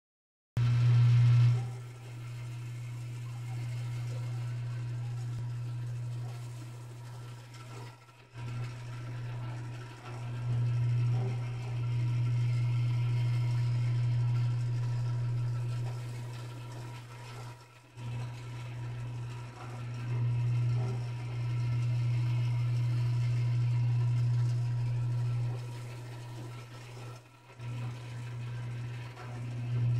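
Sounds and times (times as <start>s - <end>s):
rotisserie motor humming: 0.6s - 29.9s.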